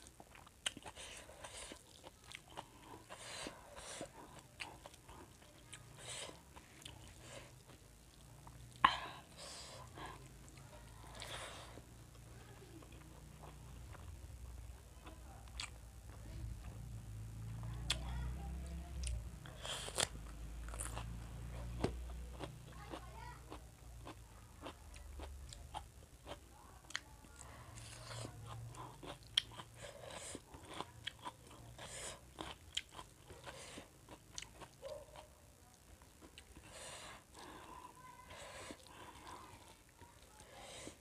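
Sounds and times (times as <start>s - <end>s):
person chewing rice: 0.0s - 16.8s, 19.0s - 41.0s.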